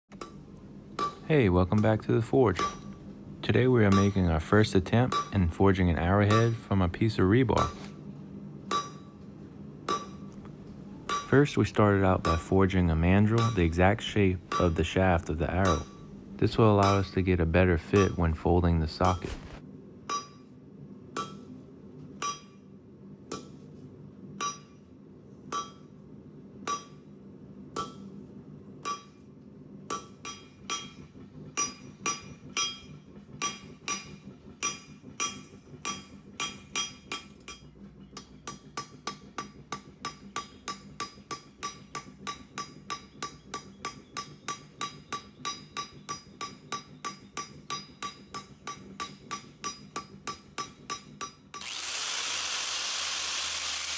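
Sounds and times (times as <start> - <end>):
hammer striking steel on anvil: 0.2 - 8.0, 8.6 - 10.4, 11.0 - 19.4, 20.0 - 21.5, 22.1 - 23.6, 24.4 - 24.9, 25.5 - 26.0, 26.6 - 27.1, 27.7 - 28.2, 28.8 - 51.8.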